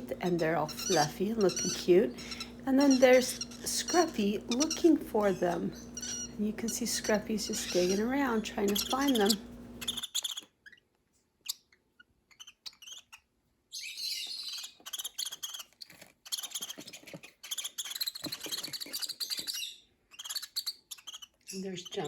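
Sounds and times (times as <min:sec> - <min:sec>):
lovebirds chirping: 0:00.0 - 0:10.8, 0:12.3 - 0:22.0.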